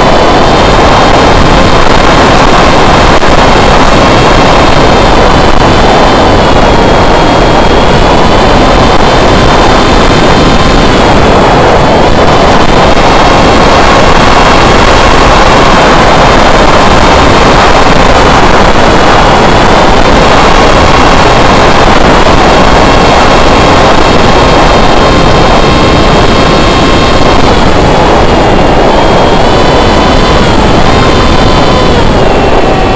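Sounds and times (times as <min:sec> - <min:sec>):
electric motor propeller whining: 0:00.0 - 0:32.9
wind rush on microphone: 0:00.0 - 0:32.9.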